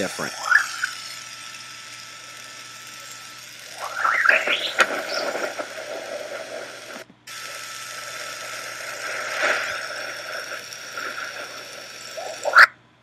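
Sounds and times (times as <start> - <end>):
steady noisy hiss: 2.6 - 13.0.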